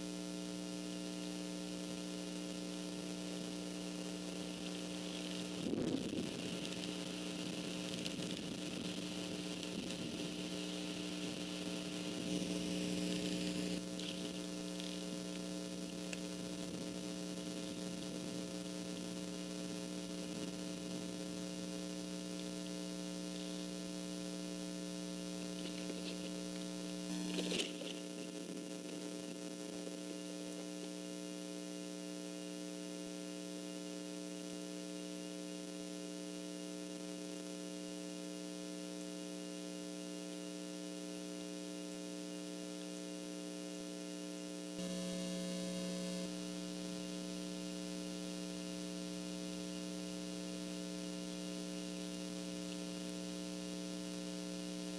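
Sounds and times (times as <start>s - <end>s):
electrical mains hum: 0.0s - 33.2s, 33.8s - 54.9s.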